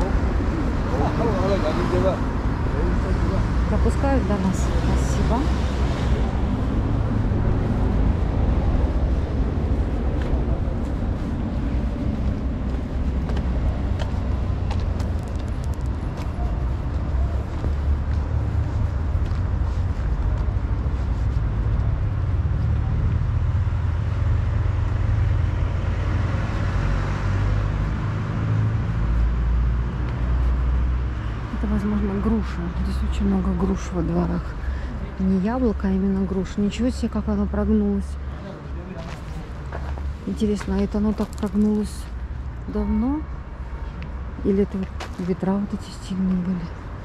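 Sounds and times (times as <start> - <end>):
low street rumble: 0.0 - 47.0.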